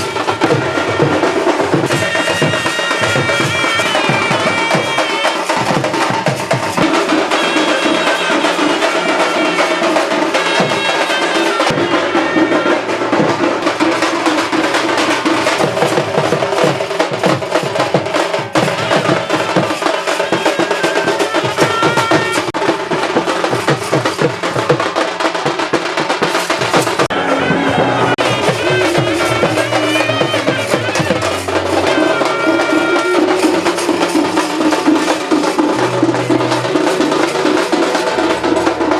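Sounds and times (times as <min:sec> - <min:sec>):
music with busy drumming: 0:00.0 - 0:38.9.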